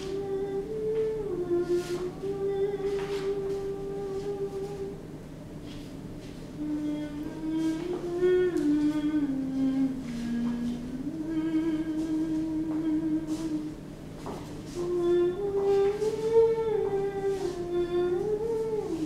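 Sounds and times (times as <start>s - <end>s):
person humming a slow tune: 0.0s - 5.2s, 6.4s - 19.0s.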